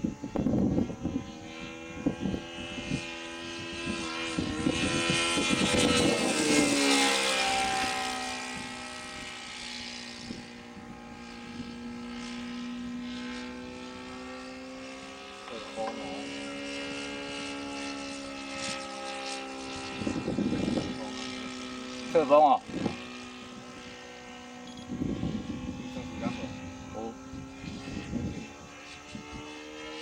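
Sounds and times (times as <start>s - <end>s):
wind buffeting microphone: 0.0s - 13.5s, 16.0s - 29.8s
model plane engine drone: 0.0s - 30.0s.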